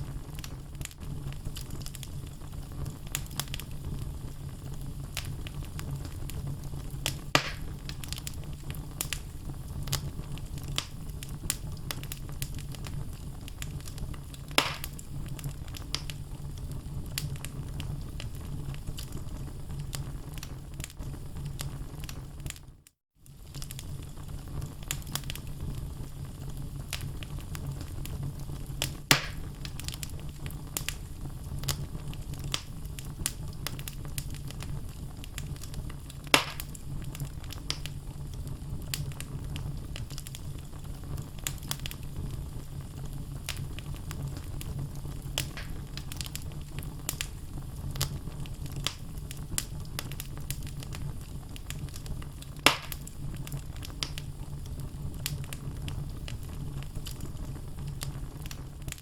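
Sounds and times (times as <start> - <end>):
loud fire pops: 0.0 - 22.7, 23.3 - 59.0
low fire rumble: 0.0 - 59.0
wood fire crackling: 0.0 - 59.0.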